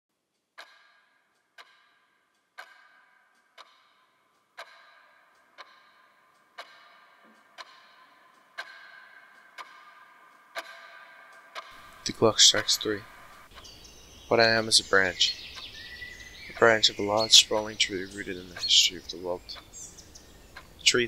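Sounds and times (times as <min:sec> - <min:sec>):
clock ticking: 0:00.3 - 0:21.0.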